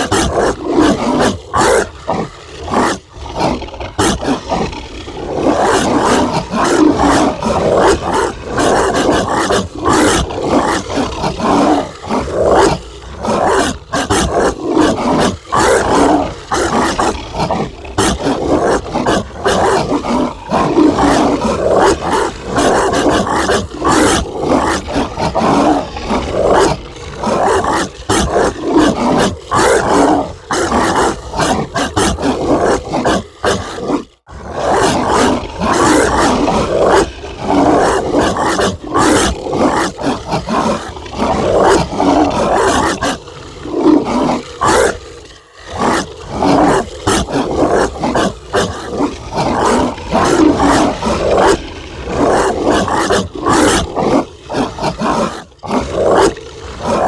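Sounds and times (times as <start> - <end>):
dog barking aggressively: 5.2 - 45.0, 45.7 - 57.0.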